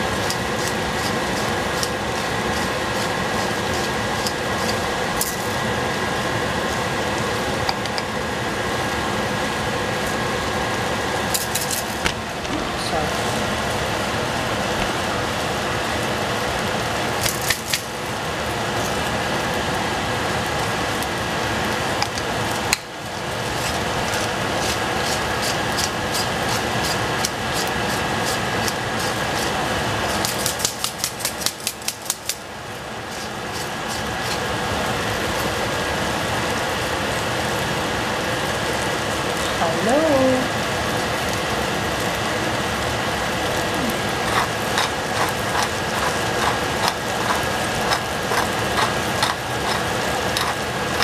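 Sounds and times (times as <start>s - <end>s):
food frying in a pan: 0.0s - 51.0s.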